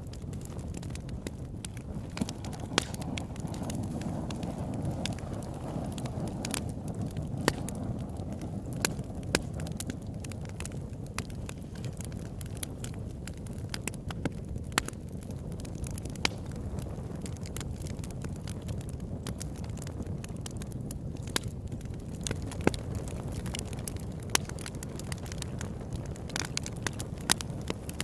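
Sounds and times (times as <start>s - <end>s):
campfire flames rushing: 0.0s - 28.0s
wood crackling and popping: 0.0s - 28.0s.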